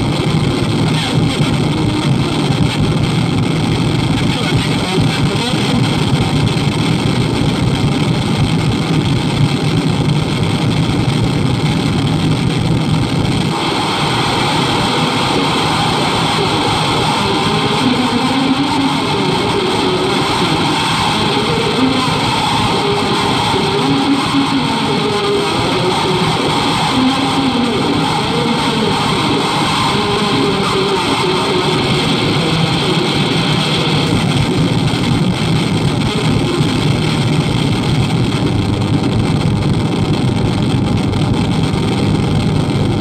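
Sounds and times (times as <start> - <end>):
distorted noise from guitar amplifier: 0.0 - 43.0.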